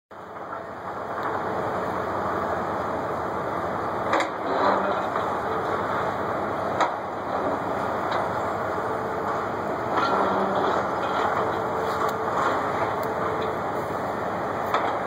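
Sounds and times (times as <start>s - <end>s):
diesel engine hum: 0.1s - 15.0s.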